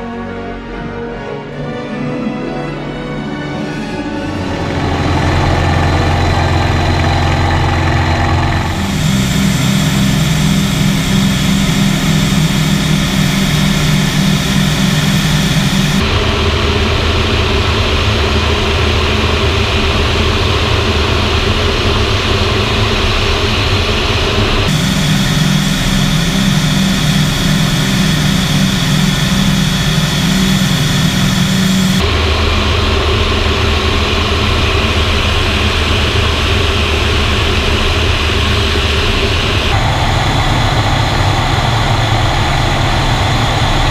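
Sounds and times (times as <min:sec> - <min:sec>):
radial aircraft engine running: 0:00.0 - 0:43.9.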